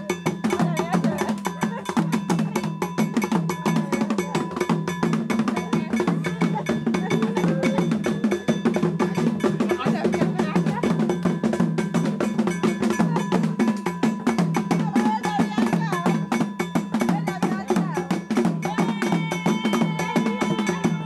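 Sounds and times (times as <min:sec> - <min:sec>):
drums: 0:00.0 - 0:21.0.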